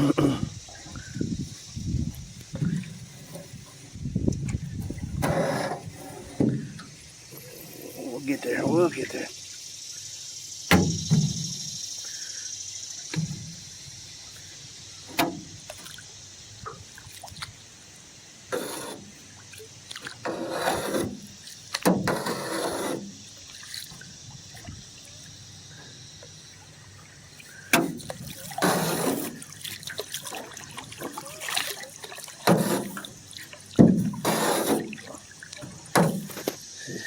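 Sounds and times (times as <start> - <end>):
paddle splashing in water: 0.7 - 9.2, 13.1 - 37.0.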